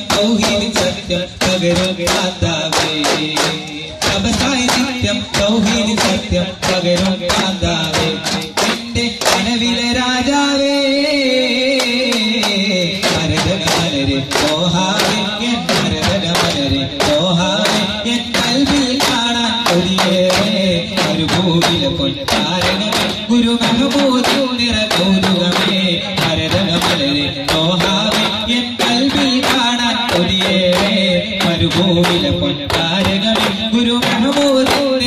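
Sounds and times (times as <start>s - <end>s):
frame drums beating: 0.0s - 35.0s.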